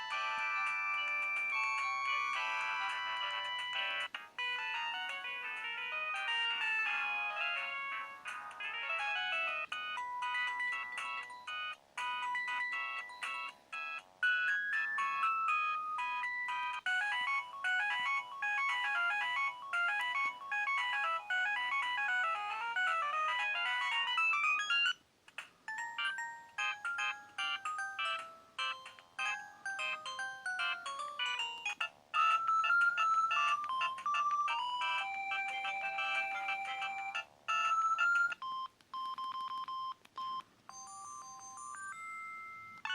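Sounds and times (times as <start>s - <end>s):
electronic ringtone melodies: 0.0s - 25.0s, 25.7s - 42.9s.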